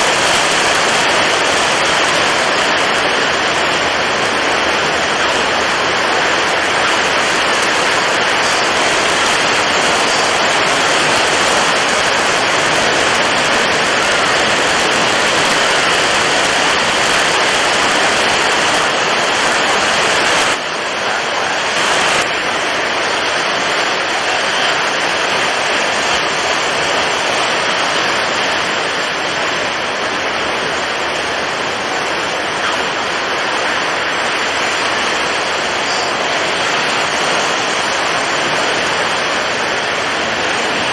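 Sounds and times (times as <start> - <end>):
heavy waves: 0.0 - 40.9
strong wind: 0.0 - 40.9.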